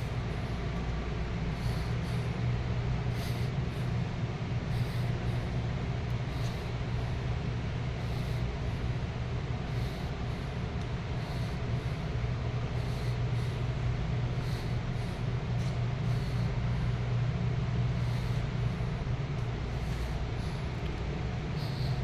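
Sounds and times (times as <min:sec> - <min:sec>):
low rumbling hum: 0:00.0 - 0:22.0.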